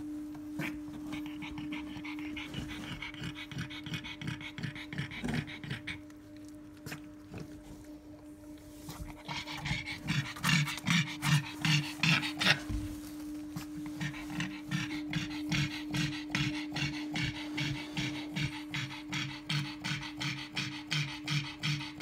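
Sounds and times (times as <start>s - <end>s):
steady low hum: 0.0s - 22.0s
dog panting: 0.6s - 7.9s, 8.8s - 22.0s.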